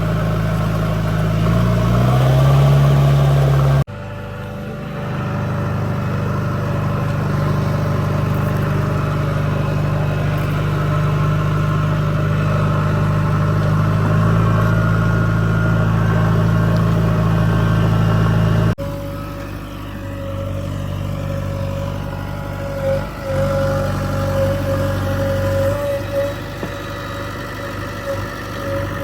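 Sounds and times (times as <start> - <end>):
diesel engine running under load: 0.0 - 29.0
quieter engine note: 0.0 - 29.0.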